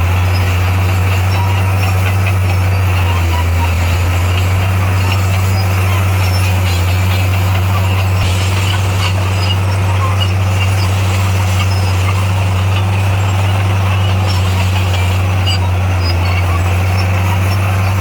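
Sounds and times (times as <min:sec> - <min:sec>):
diesel engine running steadily: 0:00.0 - 0:18.0.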